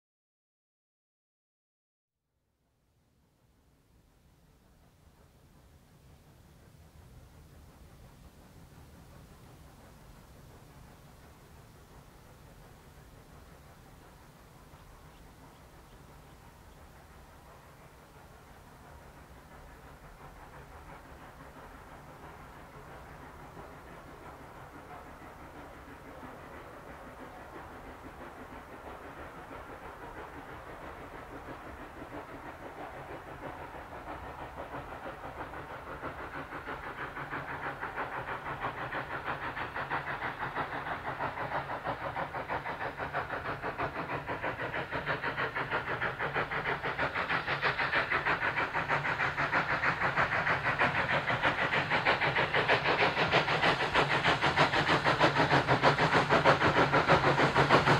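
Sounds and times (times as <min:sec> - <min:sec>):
steam locomotive exhaust beats: 0:02.5 - 0:57.9.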